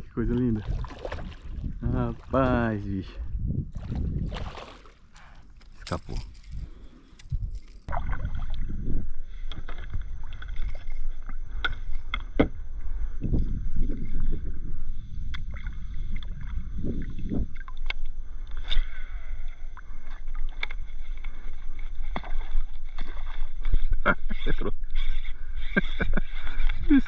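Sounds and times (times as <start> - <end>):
water lapping and splashing on hull: 0.0 - 6.6, 7.5 - 12.3, 13.8 - 27.0.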